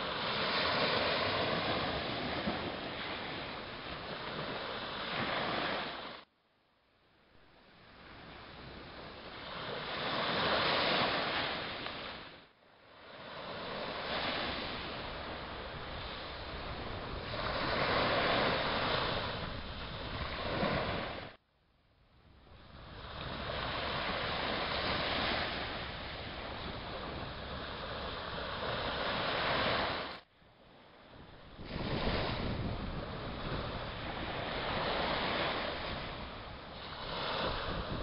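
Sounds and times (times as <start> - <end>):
waves breaking on beach: 0.0 - 6.3, 7.7 - 21.4, 22.7 - 38.0.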